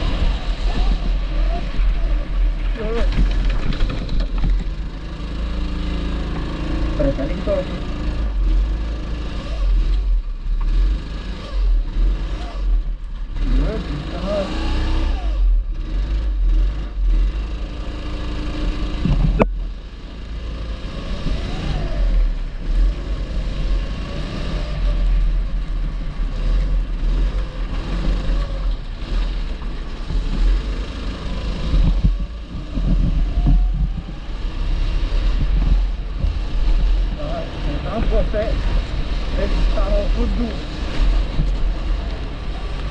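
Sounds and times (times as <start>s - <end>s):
go-kart engine revving: 0.0s - 42.9s.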